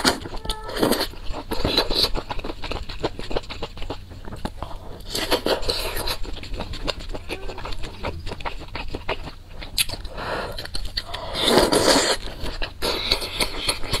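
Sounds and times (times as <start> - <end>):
wet chewing clicks: 0.0 - 14.0.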